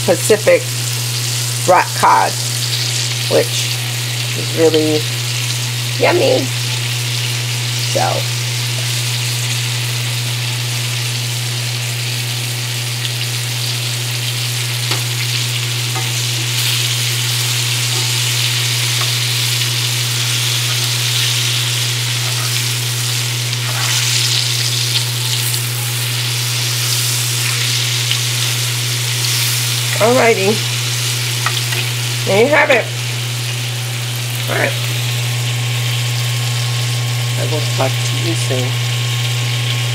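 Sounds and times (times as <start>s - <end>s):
fish frying in oil: 0.0s - 39.9s
steady low hum: 0.0s - 39.9s.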